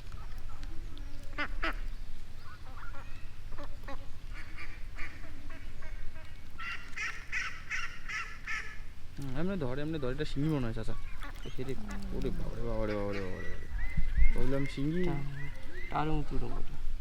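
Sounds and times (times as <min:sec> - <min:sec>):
ducks quacking: 0:01.2 - 0:09.0, 0:10.6 - 0:16.8.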